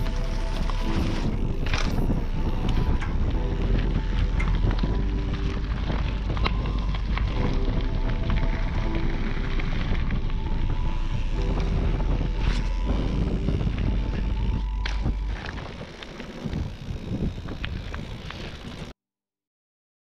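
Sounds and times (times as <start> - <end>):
tyres rumbling over gravel: 0.0 - 18.9
wind buffeting microphone: 0.0 - 18.9.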